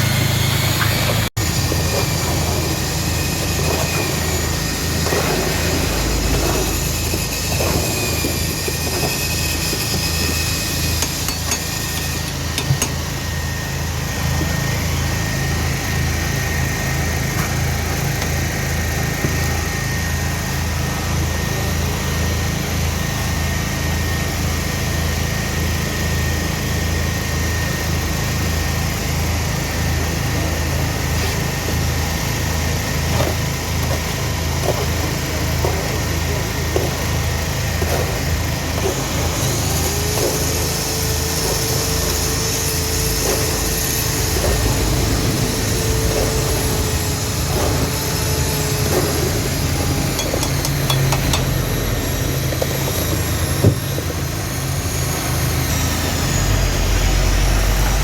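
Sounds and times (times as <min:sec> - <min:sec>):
engine droning: 0:00.0 - 0:58.0
high whine: 0:00.0 - 0:58.0.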